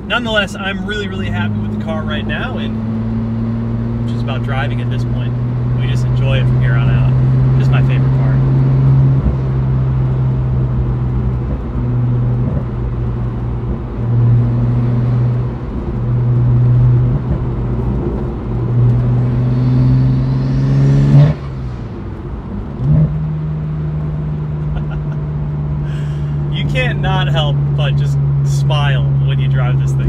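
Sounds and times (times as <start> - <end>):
car engine pulling through gears: 0.0 - 30.0.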